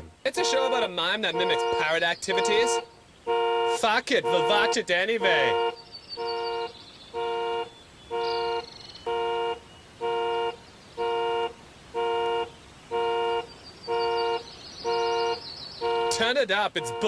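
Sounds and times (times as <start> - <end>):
car alarm horn toots: 0.0 - 17.0.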